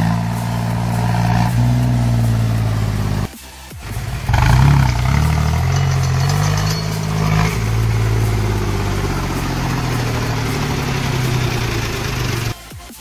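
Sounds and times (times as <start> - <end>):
tractor diesel engine running: 0.0 - 12.6.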